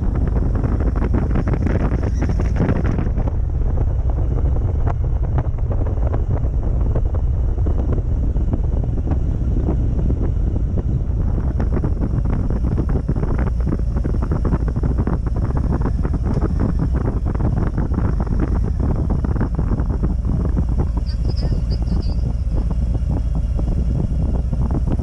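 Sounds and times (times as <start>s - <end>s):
motorcycle engine cruising: 0.0s - 25.0s
wind buffeting microphone: 0.0s - 25.0s.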